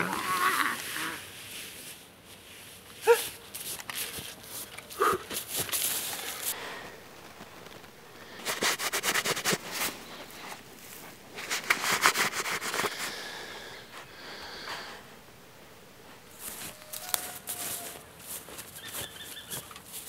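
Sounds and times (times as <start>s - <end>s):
rustle of handling bag: 0.0s - 13.4s, 16.1s - 20.0s.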